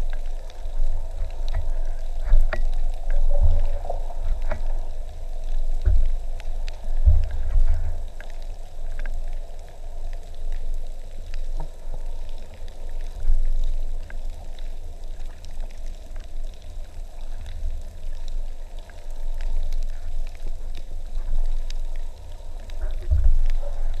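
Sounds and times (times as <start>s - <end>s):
faint crackling and ticking: 0.0s - 24.0s
underwater rumble of moving water: 0.0s - 24.0s.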